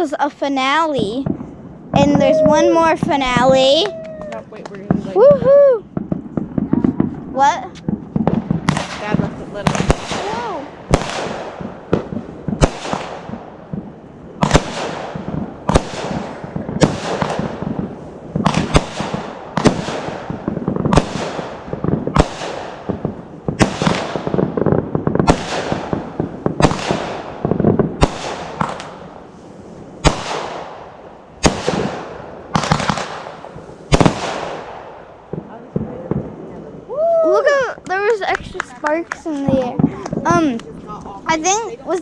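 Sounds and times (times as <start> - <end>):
fireworks crackling: 0.0 - 42.0
firework shells bursting: 1.0 - 36.4.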